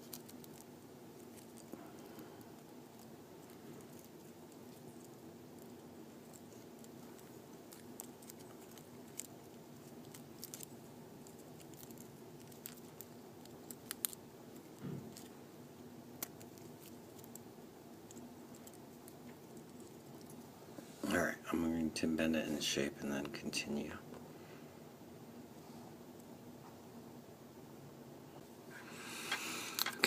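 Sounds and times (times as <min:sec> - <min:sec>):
faint room hum: 0:00.0 - 0:30.0.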